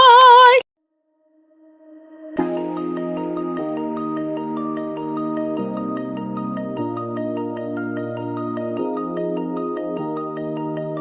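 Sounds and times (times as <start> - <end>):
soft electronic music: 1.6 - 11.0.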